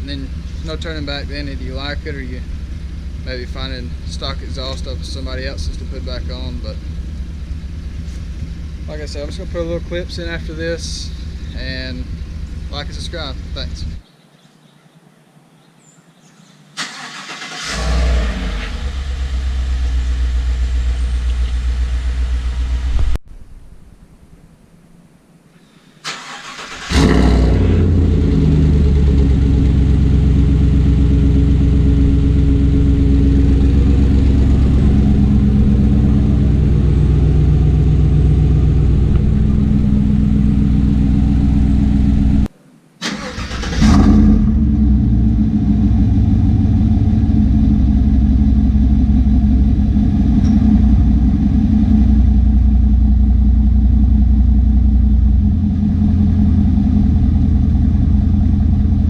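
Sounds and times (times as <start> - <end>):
truck engine starting and idling: 0.0 - 14.0, 16.8 - 23.0, 26.0 - 59.0.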